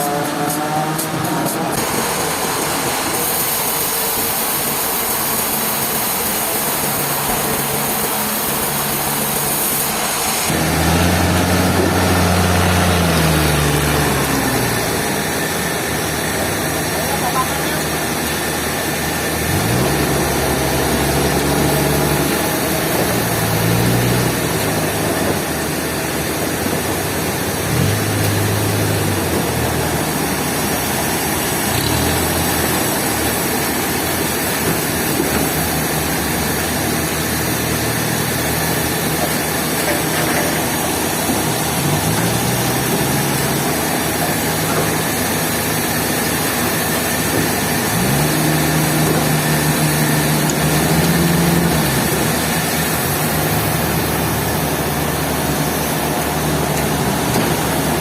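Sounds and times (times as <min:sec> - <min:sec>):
engine note rising and falling: 0:00.0 - 0:03.2, 0:06.6 - 0:58.0
heavy sawmill machinery running: 0:00.0 - 0:58.0.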